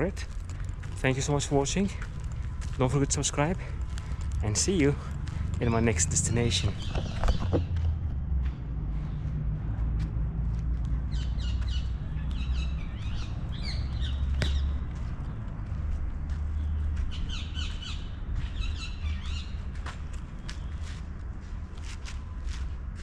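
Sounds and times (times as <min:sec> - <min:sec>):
birds chirping: 0:00.0 - 0:09.7, 0:10.9 - 0:21.2.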